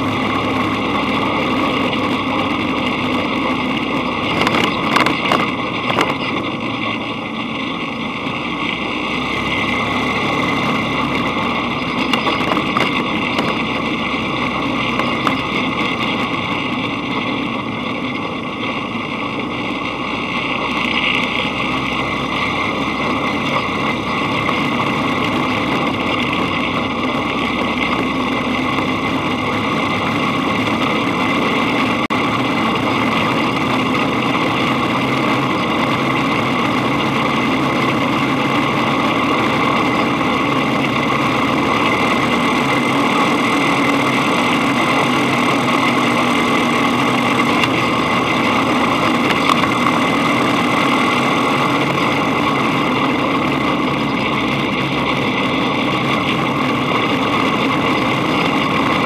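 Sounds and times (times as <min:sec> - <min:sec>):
dune buggy engine running: 0:00.0 - 0:59.0.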